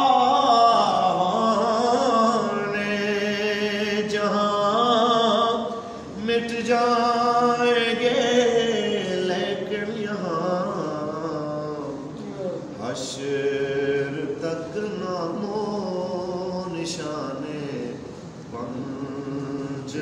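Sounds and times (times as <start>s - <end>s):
man chanting unaccompanied: 0.0s - 12.2s, 12.8s - 20.0s.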